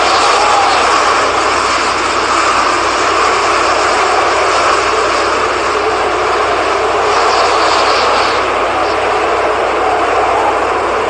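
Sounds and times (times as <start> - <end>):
strong wind through trees: 0.0 - 11.0.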